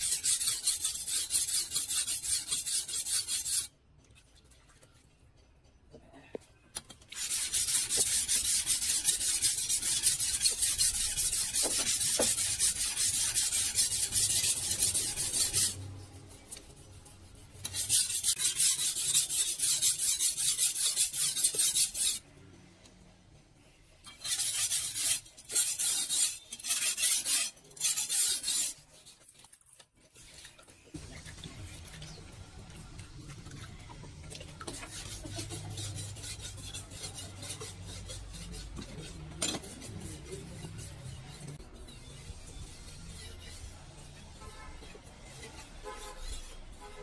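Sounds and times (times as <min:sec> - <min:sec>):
blade rasping against steel: 0:00.0 - 0:03.8, 0:07.0 - 0:22.3, 0:24.0 - 0:47.0.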